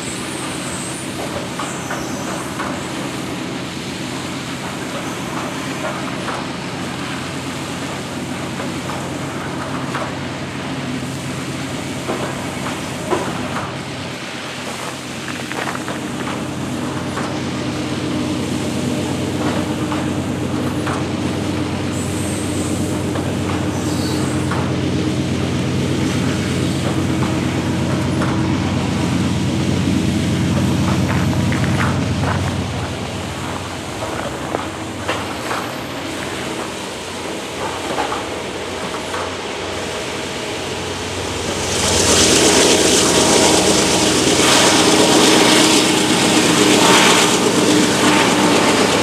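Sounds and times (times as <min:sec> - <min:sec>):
diesel locomotive engine drone: 0:00.0 - 0:49.0
train wheels clicking over rails: 0:00.0 - 0:49.0.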